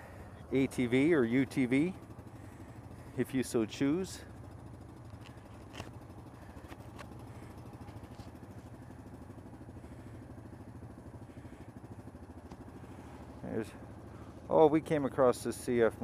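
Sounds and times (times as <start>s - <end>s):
engines idling: 0.0s - 16.0s.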